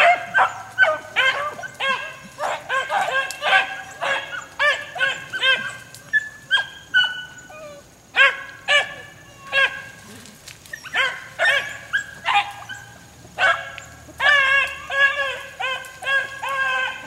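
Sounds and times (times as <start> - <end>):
dogs barking: 0.0 - 10.1, 10.7 - 17.0.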